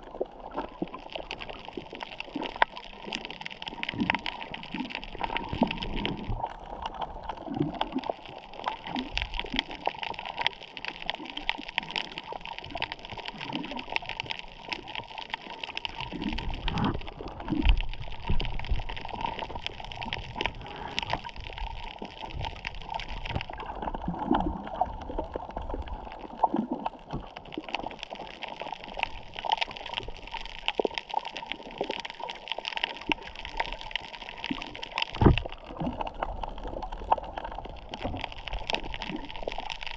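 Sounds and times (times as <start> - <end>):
underwater hiss and crackling: 0.0 - 39.9
water gurgling and sloshing: 0.0 - 39.9.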